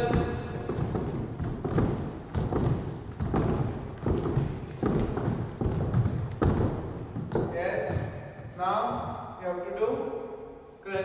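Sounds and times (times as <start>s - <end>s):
sneakers thudding on wooden floor: 0.0s - 9.3s.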